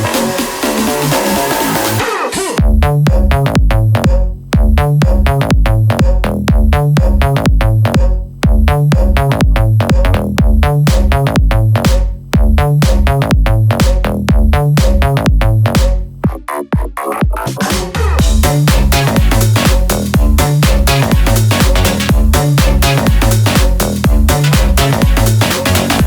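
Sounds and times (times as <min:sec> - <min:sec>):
electronic dance music: 0:00.0 - 0:26.0.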